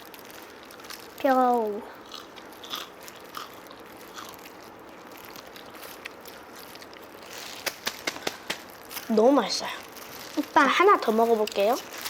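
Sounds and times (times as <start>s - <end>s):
chewing crispy fried chicken: 0.0s - 12.0s.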